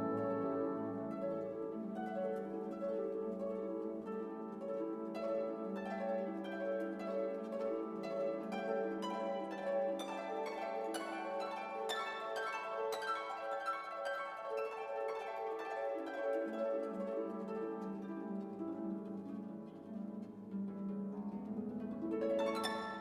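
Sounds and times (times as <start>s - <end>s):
orchestral music: 0.0s - 23.0s
plucked harp: 0.0s - 23.0s.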